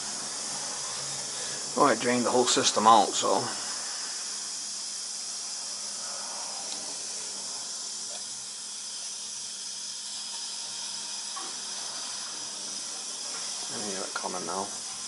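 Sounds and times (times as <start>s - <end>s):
air hissing from radiator valve: 0.0s - 15.0s.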